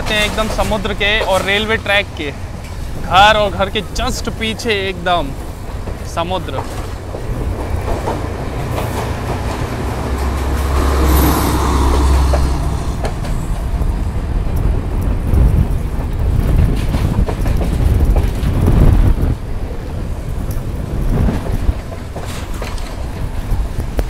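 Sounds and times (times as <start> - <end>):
train wheels rumbling: 0.0 - 24.0
wheels clicking over rail joints: 0.0 - 24.0
wind buffeting microphone: 0.0 - 24.0.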